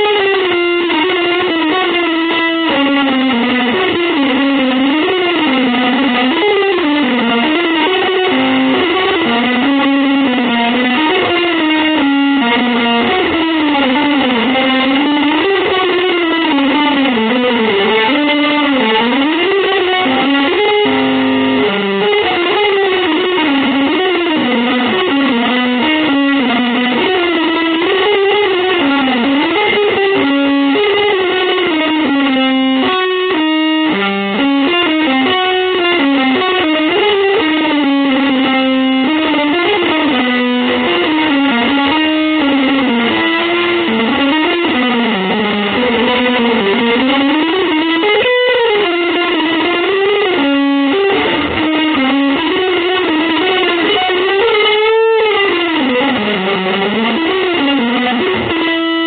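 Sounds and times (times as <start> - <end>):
distorted electric guitar melody: 0.0 - 59.0.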